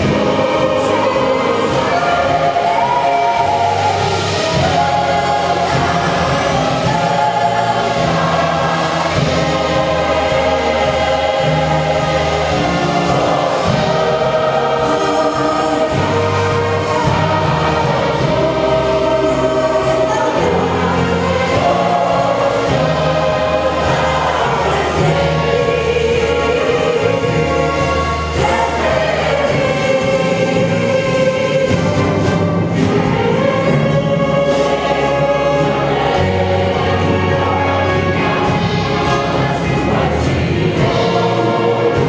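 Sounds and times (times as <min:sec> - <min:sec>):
choir singing a hymn: 0:00.0 - 0:42.0
orchestra sustained bass notes: 0:00.0 - 0:42.0.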